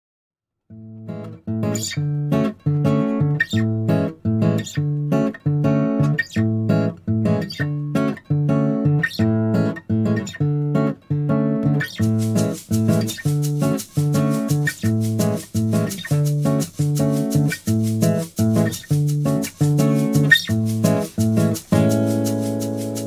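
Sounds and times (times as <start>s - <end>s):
acoustic guitar strumming: 0.9s - 23.0s.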